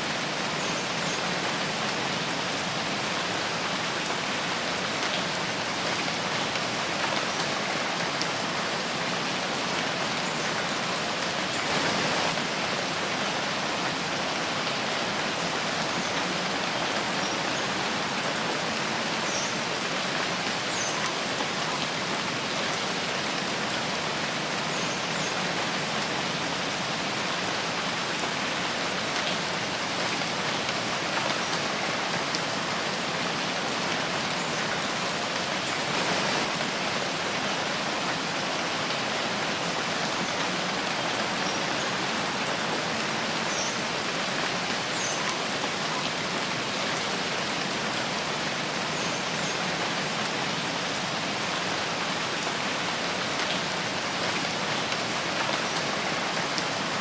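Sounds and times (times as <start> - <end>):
steady rain in a forest: 0.0 - 57.0.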